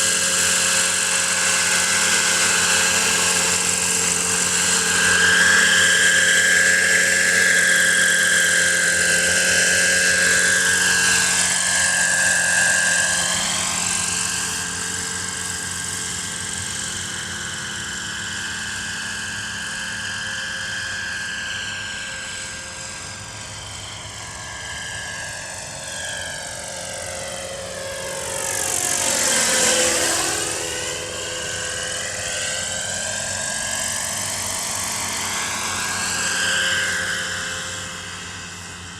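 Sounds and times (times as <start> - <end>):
model helicopter engine and rotor: 0.0 - 38.9.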